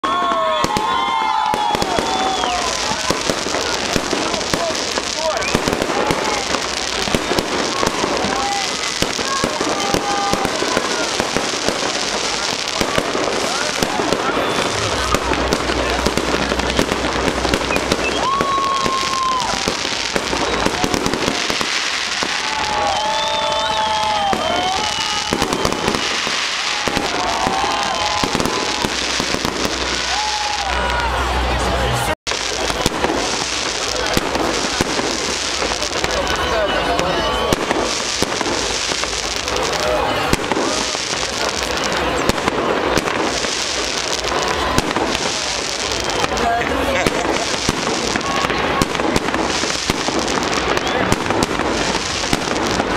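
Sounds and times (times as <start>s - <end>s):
firework whistling: 0.0s - 31.2s, 32.3s - 52.9s
crackling firework pops: 0.2s - 30.2s, 32.3s - 52.9s.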